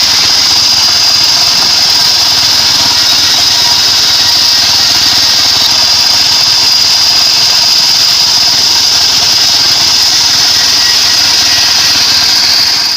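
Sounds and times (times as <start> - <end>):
high-pitched saw whine: 0.0 - 12.9
sawmill engine drone: 0.0 - 12.9.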